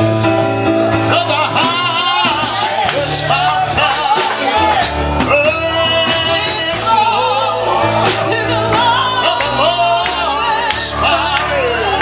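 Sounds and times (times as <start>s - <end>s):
band accompaniment: 0.0s - 12.0s
person singing with vibrato: 1.0s - 12.0s.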